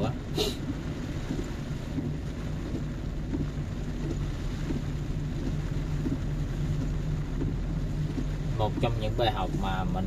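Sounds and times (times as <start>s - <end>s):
car engine running: 0.0s - 10.0s
rain on a car: 0.0s - 10.0s
tyres on a wet road: 0.0s - 10.0s.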